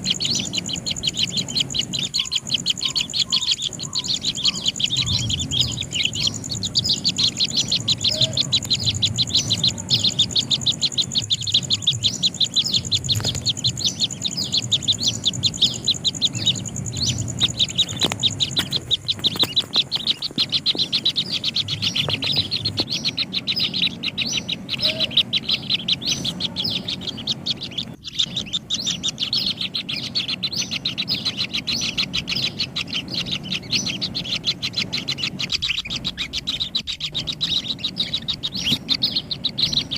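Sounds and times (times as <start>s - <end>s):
nestlings chirping rapidly: 0.0s - 39.9s.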